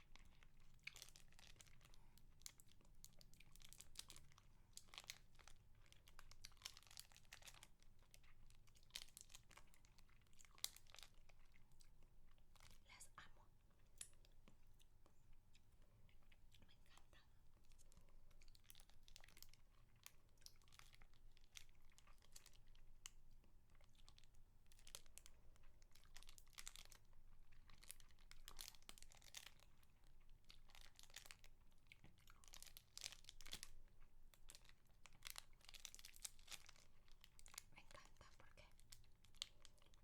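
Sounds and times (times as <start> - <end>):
lollipop crinkling and crackling: 0.0 - 40.0.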